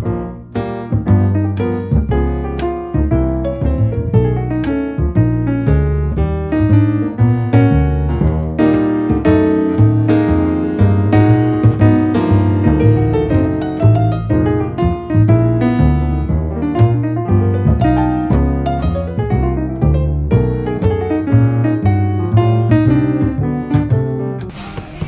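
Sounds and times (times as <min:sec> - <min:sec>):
piano music: 0:00.0 - 0:24.6
low bass line: 0:00.0 - 0:25.0.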